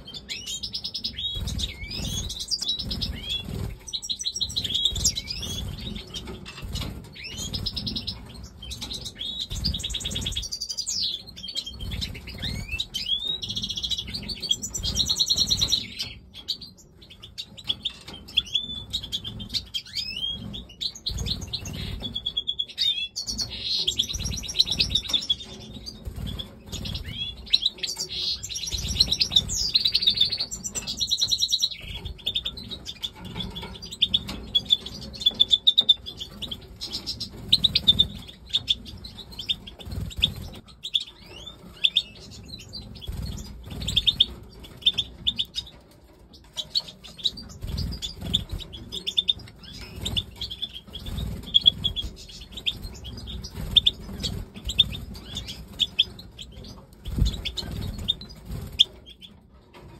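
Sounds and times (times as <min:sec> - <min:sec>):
goldfinches twittering and singing: 0:00.0 - 0:59.4.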